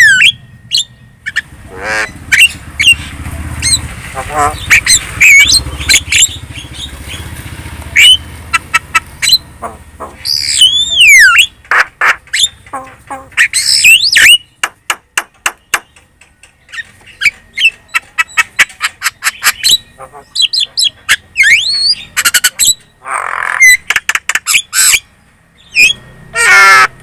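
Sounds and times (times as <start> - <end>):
myna bird chattering song: 0.0 - 27.0.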